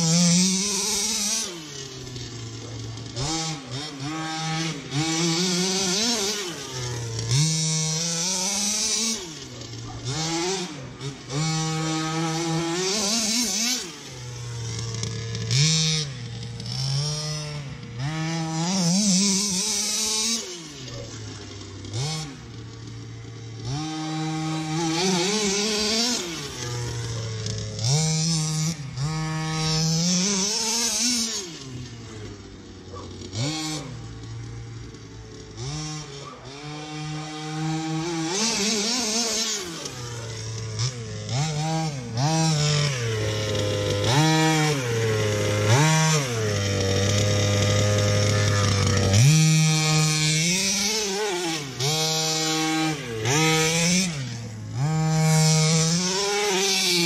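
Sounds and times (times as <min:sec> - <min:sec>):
small two-stroke engine revving: 0:00.0 - 0:57.0.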